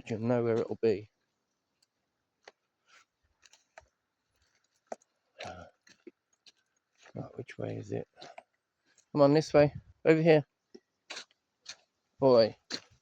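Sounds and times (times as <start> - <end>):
faint footsteps on a trail: 0.0 - 13.0.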